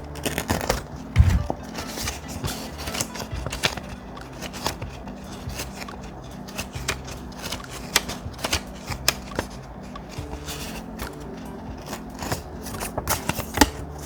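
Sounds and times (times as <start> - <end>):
thick paper rustling: 0.0 - 14.0.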